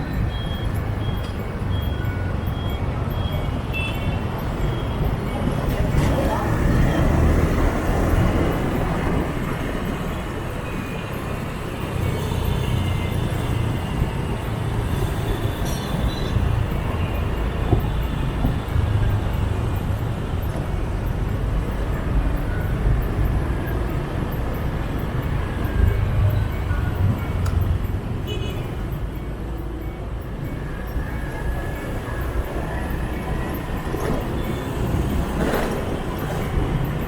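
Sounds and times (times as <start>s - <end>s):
motorbike engine and road noise: 0.0s - 29.6s, 30.2s - 37.0s.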